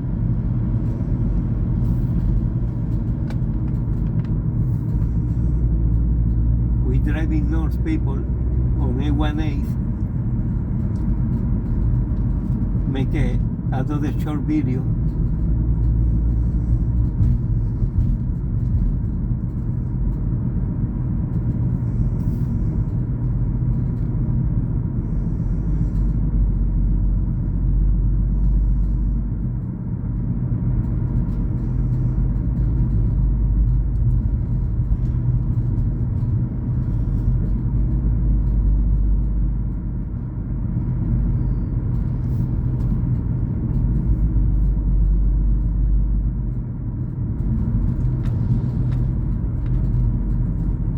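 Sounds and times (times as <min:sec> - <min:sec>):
car engine and tyre rumble: 0:00.0 - 0:50.9.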